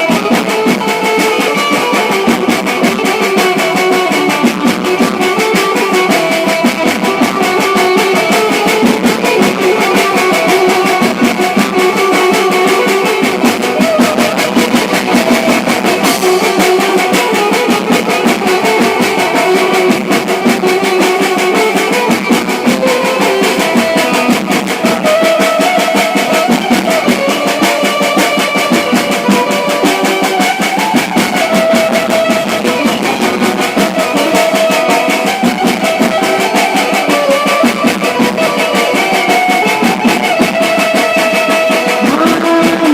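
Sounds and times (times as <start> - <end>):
loud music with drum beat: 0.0 - 42.9.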